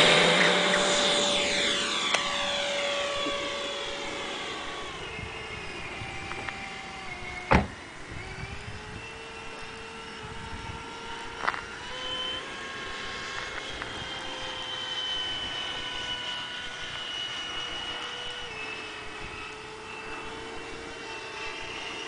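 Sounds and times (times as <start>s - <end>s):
electric ducted fan whining: 0.0s - 22.0s.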